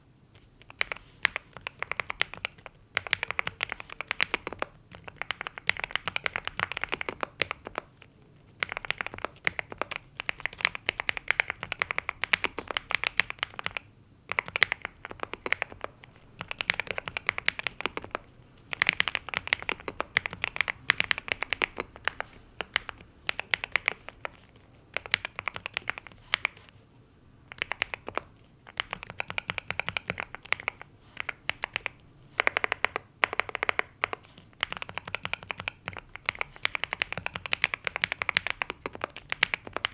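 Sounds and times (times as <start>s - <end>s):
typing on mechanical keyboard: 0.4s - 26.7s, 27.5s - 39.9s.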